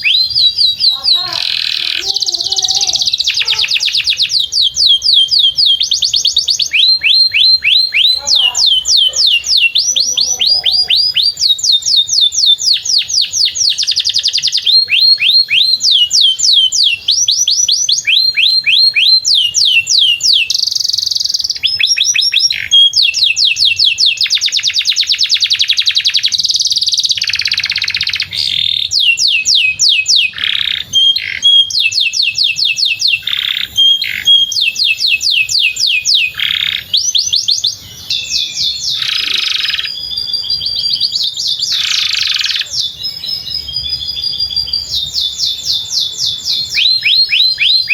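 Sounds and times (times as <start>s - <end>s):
canary singing: 0.0s - 47.9s.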